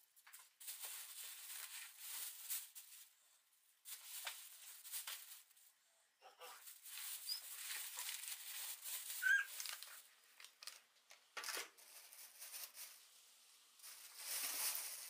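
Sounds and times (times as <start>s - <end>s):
plastic bag rustling: 0.2s - 3.1s, 3.8s - 5.7s, 6.6s - 10.8s, 11.4s - 13.2s, 13.8s - 15.0s.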